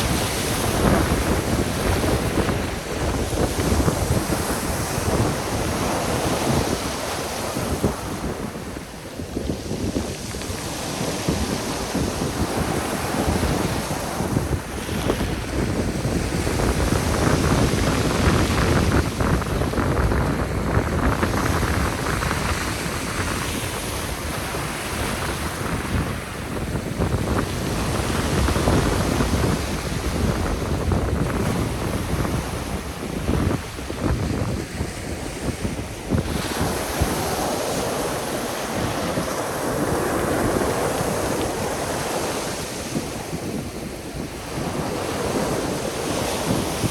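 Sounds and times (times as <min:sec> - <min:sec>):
sea surf breaking on shore: 0:00.0 - 0:46.9
wind buffeting microphone: 0:00.0 - 0:46.9.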